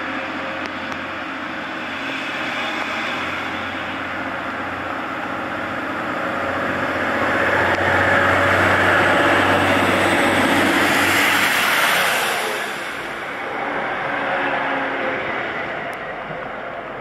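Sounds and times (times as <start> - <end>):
train rushing past: 0.0 - 17.0.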